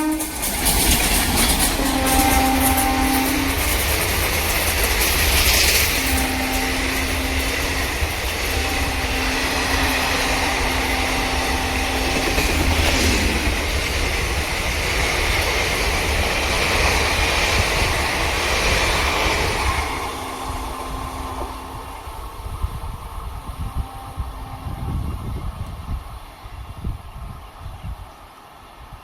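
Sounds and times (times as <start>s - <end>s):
train wheels rushing on rails: 0.0s - 29.0s.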